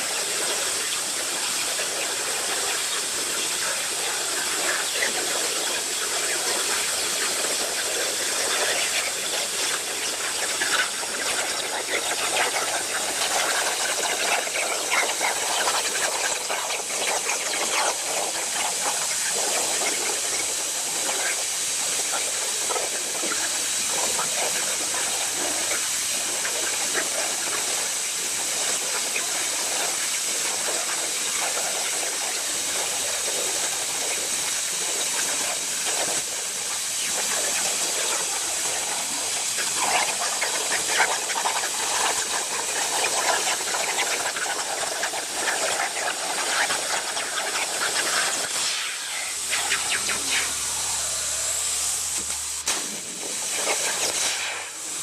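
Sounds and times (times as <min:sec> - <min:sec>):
plasma torch hissing: 0:00.0 - 0:55.0.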